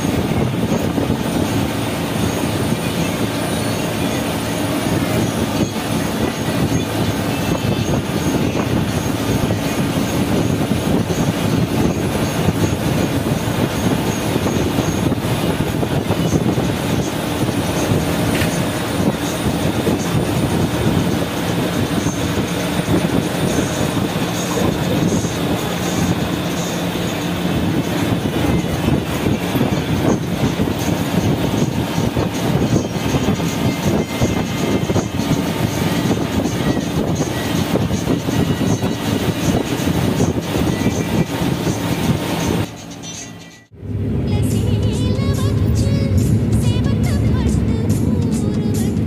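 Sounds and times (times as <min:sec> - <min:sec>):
bus engine drone: 0:00.0 - 0:49.0
road and wind noise: 0:00.0 - 0:49.0.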